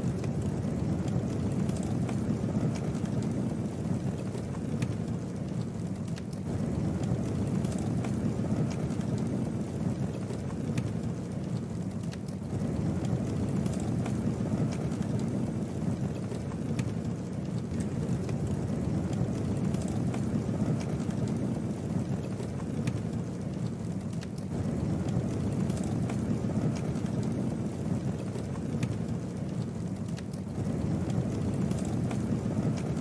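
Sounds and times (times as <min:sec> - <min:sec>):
flames rushing: 0:00.0 - 0:33.0
wood crackling and popping: 0:00.0 - 0:33.0.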